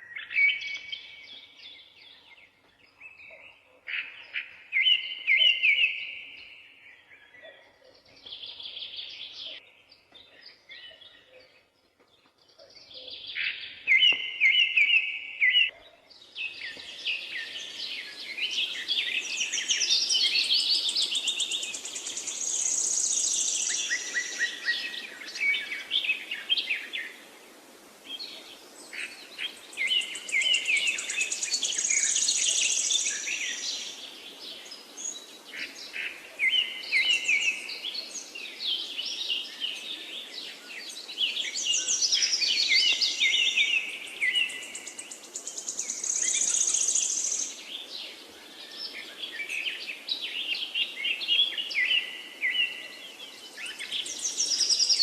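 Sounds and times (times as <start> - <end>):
songbirds singing: 0.0 - 55.0
background hiss: 7.9 - 55.0.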